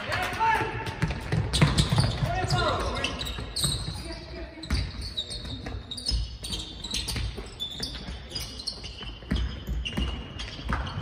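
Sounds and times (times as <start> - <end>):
basketball bouncing on floor: 0.8 - 8.4, 9.0 - 11.0
shoes squeaking on court: 0.8 - 11.0.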